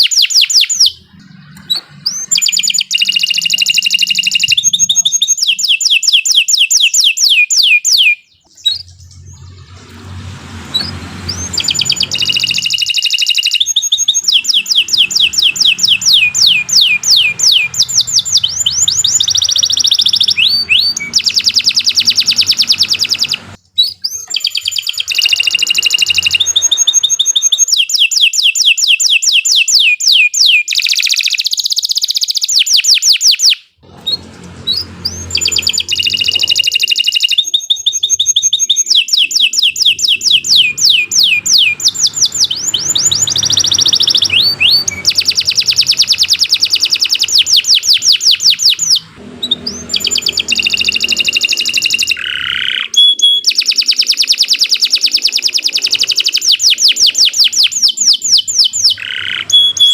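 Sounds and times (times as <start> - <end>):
canary singing trills: 0.0 - 33.6, 34.7 - 59.9.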